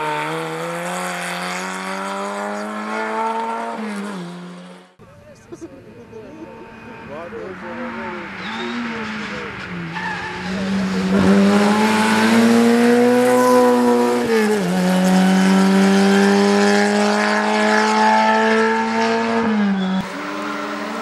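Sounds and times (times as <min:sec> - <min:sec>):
rally car engine revving: 0:00.0 - 0:05.0, 0:06.0 - 0:21.0.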